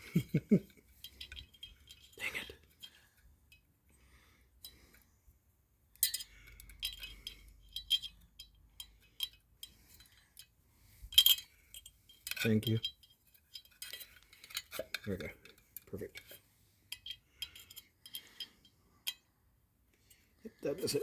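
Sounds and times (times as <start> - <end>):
metallic clinks of tools: 0.0 - 3.6, 6.0 - 19.2.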